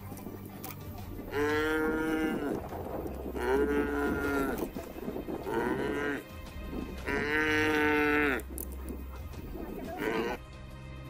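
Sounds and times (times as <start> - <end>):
buffalo bellowing: 1.2 - 10.4.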